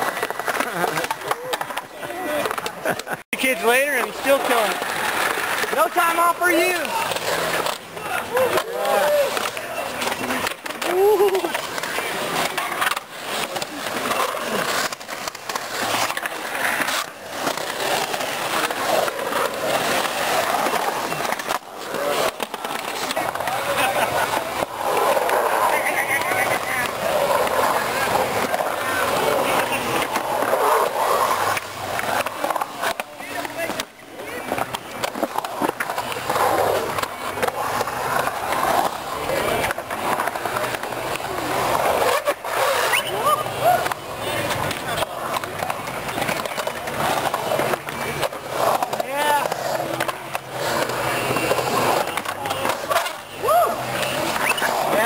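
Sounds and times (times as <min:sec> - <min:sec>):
sharp skateboard clicks: 0:00.0 - 0:55.0
skateboard wheels rolling on concrete: 0:00.0 - 0:55.0.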